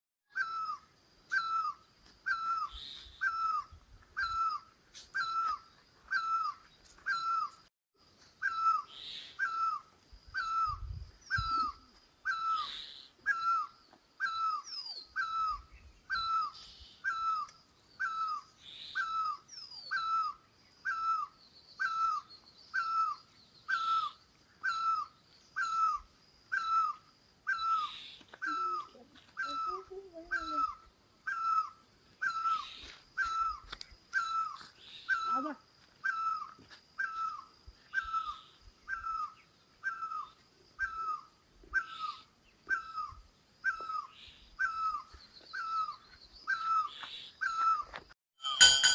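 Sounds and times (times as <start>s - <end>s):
small birds chirping faintly: 0.3s - 48.9s.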